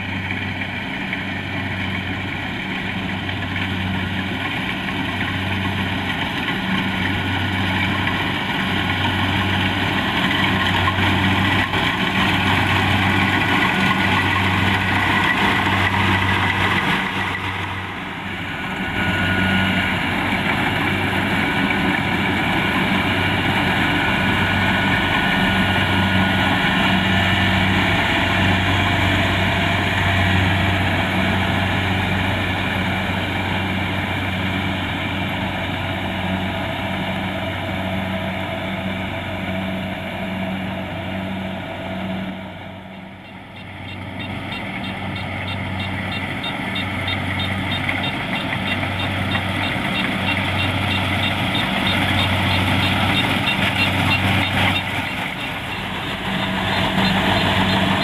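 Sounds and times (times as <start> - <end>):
harvester diesel engine running: 0.0 - 58.0.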